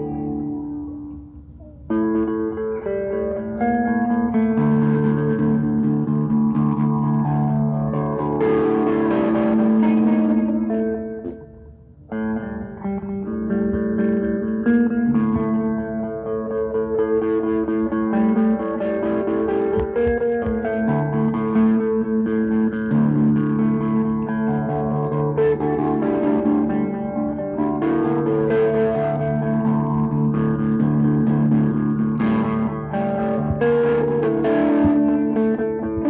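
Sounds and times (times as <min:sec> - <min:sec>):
electric guitar chords and notes: 0:00.0 - 0:36.0.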